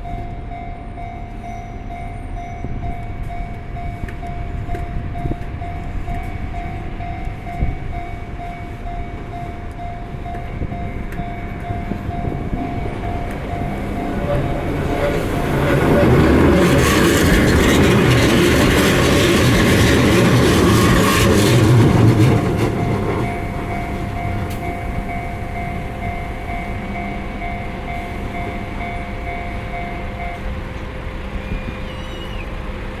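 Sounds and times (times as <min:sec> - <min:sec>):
level crossing warning bell: 0:00.0 - 0:32.9
electric train wheel noise: 0:00.0 - 0:33.0.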